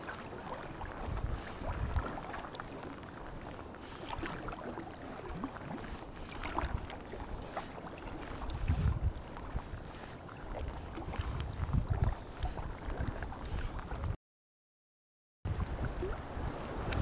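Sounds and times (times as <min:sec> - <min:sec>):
paddle splashing water: 0:00.0 - 0:14.2, 0:15.5 - 0:17.0.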